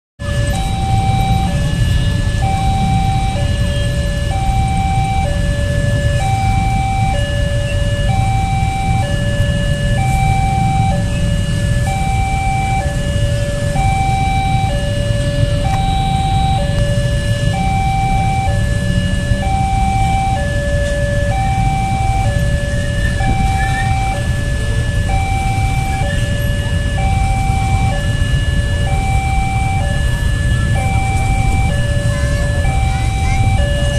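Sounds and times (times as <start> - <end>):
level crossing two-tone alarm: 0.2 - 33.9
low rumble of traffic: 0.2 - 33.9.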